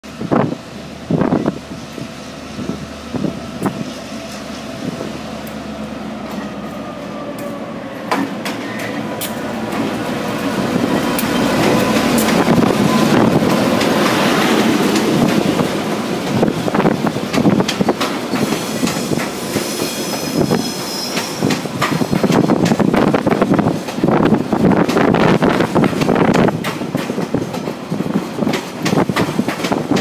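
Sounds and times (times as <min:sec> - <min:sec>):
diesel locomotive engine running: 0:00.0 - 0:30.0
train wheels clicking over rails: 0:01.3 - 0:30.0.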